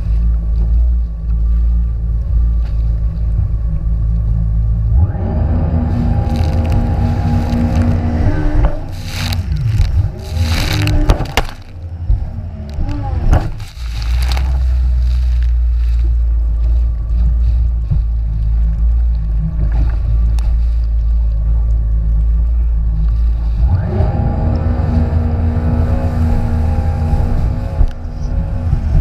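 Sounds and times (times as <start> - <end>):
jet ski engine rumble: 0.0 - 29.0.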